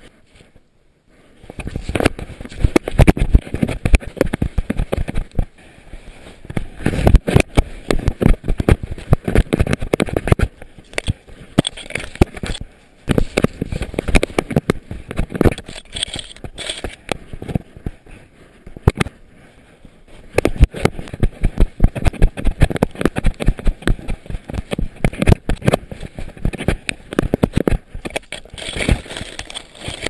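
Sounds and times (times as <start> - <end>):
camera knocking and rattling: 1.5 - 5.5, 6.5 - 18.0, 20.3 - 30.0.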